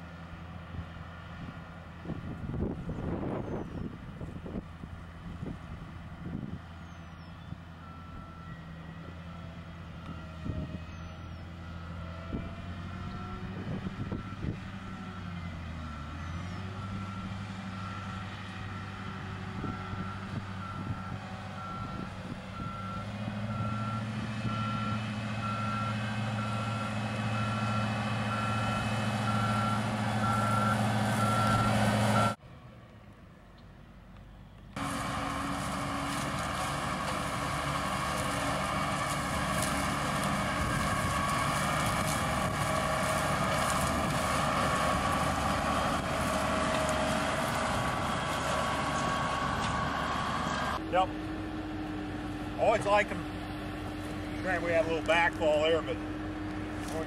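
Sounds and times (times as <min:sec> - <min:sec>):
heavy engine running: 0:00.0 - 0:57.0.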